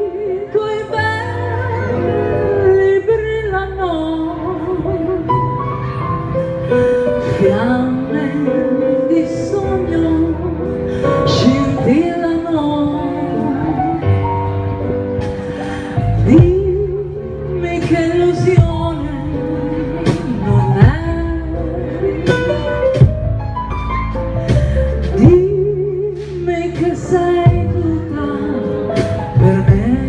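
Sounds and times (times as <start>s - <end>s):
woman singing with vibrato: 0.0s - 6.0s, 7.2s - 14.6s, 16.1s - 22.3s, 25.1s - 30.0s
bass: 0.0s - 30.0s.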